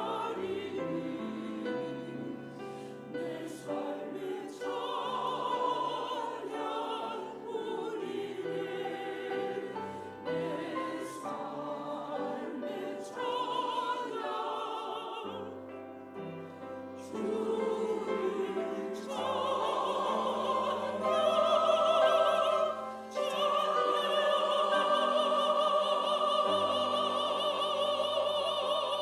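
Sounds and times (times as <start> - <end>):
choir singing in harmony: 0.0 - 29.0.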